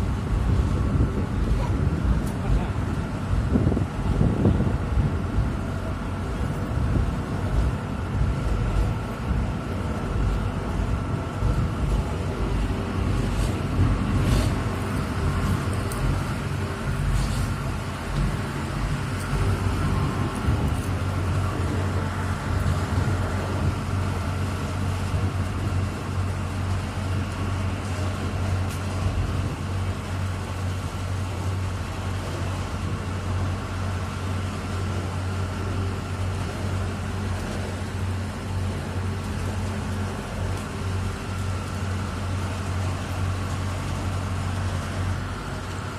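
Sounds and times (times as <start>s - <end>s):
ferry engine humming: 0.0s - 45.9s.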